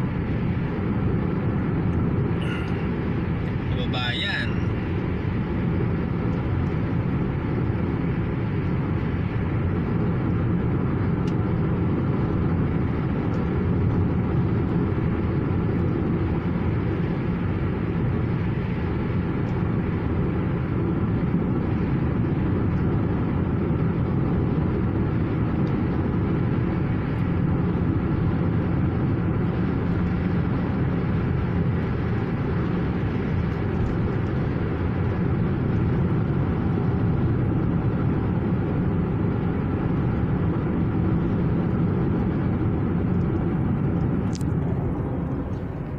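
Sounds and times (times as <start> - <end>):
car cabin road and engine rumble: 0.0 - 45.9.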